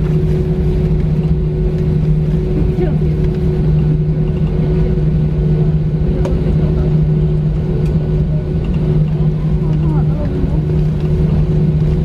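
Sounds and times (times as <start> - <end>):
airplane cabin hum: 0.0 - 12.0.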